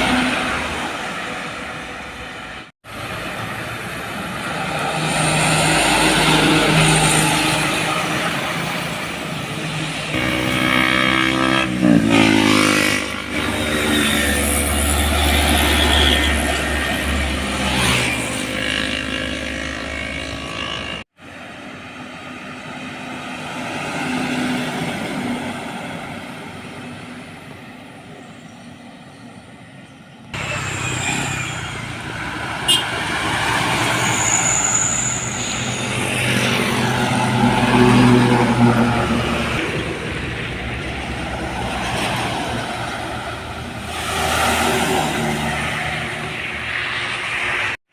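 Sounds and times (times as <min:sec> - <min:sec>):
heavy truck passing: 0:00.0 - 0:27.8, 0:30.4 - 0:47.8
quieter highway traffic: 0:00.0 - 0:47.9.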